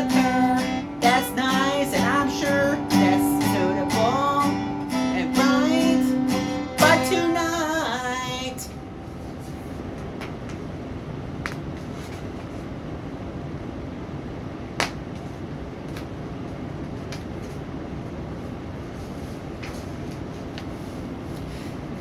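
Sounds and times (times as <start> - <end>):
fan-like hum and hiss: 0.0 - 22.0.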